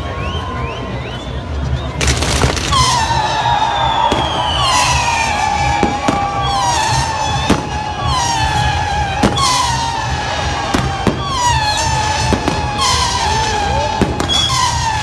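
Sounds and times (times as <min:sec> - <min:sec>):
whistling fireworks: 0:00.0 - 0:15.0.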